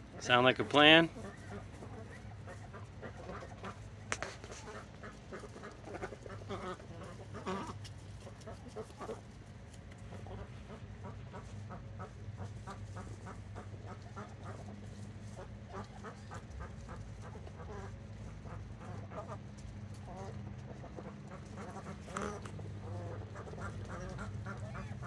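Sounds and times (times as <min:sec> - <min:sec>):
ducks quacking softly: 0:00.0 - 0:25.0
steady low hum: 0:00.0 - 0:25.0.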